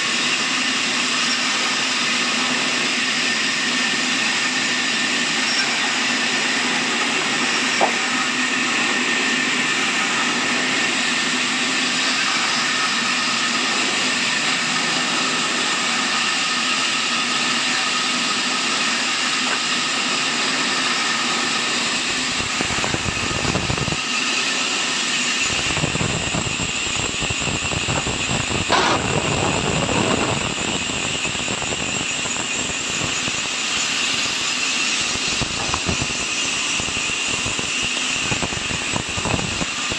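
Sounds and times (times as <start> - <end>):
band saw high-pitched squeal: 0.0 - 39.9.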